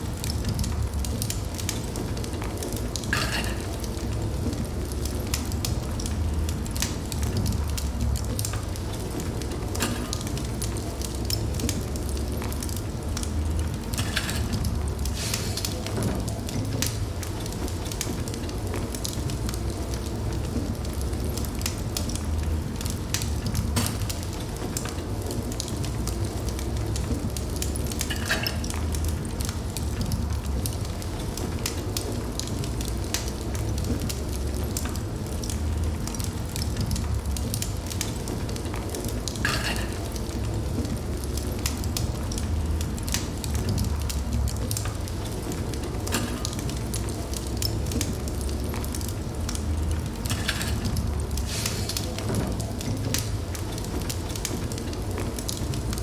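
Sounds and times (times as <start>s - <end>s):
fireplace flames crackling: 0.0s - 56.0s.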